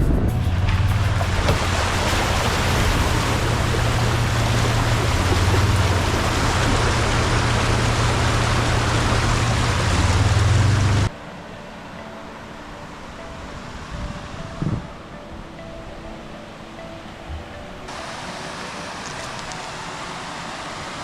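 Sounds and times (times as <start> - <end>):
flowing water rushing: 0.1 - 14.6, 16.3 - 21.0.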